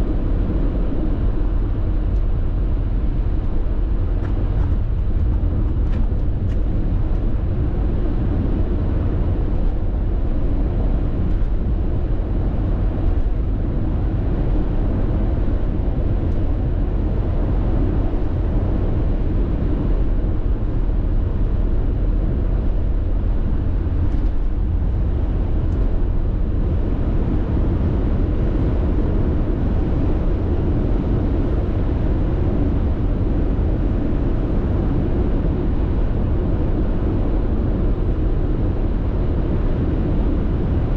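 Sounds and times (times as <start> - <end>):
car road noise drone: 0.0 - 40.9.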